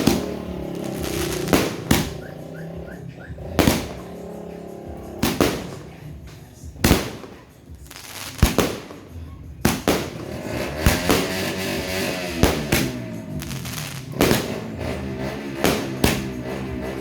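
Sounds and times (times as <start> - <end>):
firework bangs: 0.0 - 17.0
firework crackling: 0.0 - 17.0.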